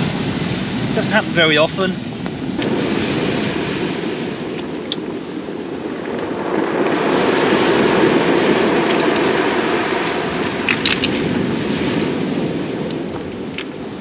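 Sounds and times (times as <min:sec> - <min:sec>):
surf washing on shingle: 0:00.0 - 0:14.0
wind rumbling on microphone: 0:00.0 - 0:14.0.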